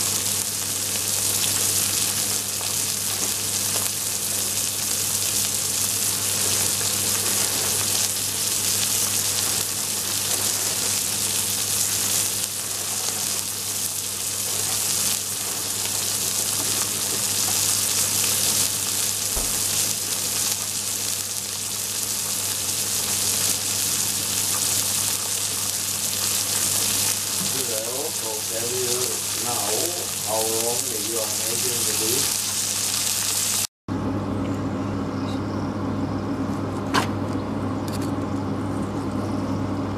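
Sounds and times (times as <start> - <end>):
steak sizzling in hot oil: 0.0 - 33.7.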